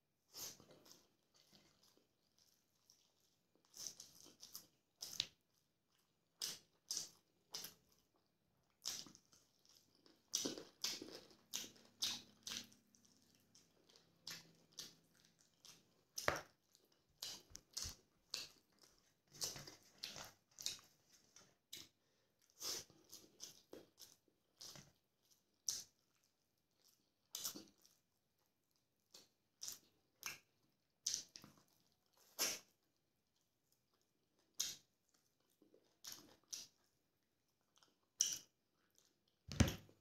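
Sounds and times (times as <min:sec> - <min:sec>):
person chewing and smacking: 0:00.3 - 0:40.0.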